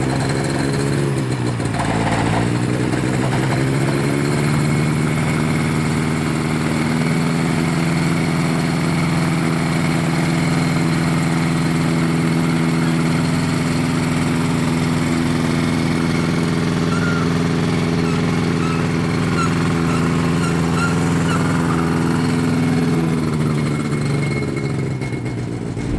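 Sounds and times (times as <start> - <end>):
aircraft engine and propeller idling: 0.0 - 25.9.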